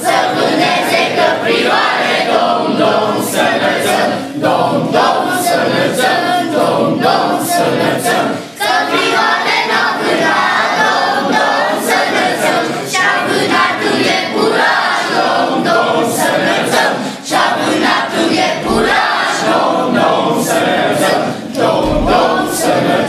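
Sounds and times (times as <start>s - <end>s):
group singing a carol: 0.0s - 23.0s.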